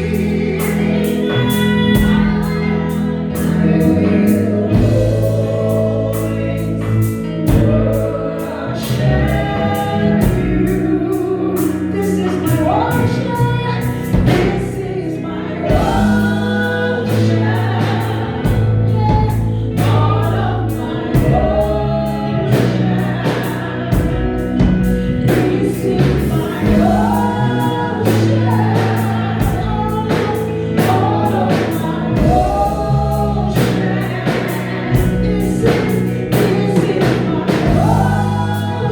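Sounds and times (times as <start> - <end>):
gospel choir singing: 0.0 - 38.9
low bass line: 0.0 - 38.9.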